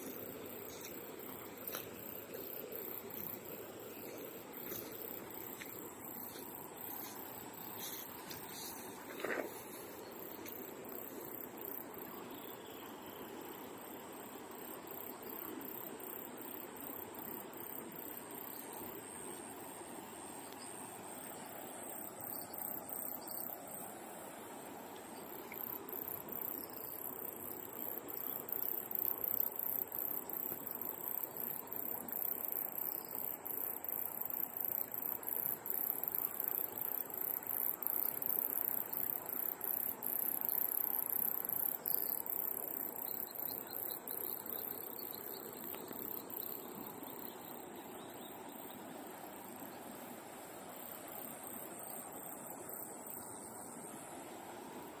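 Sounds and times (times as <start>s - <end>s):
insects trilling: 0.0s - 55.0s
river water running over stones: 0.0s - 55.0s.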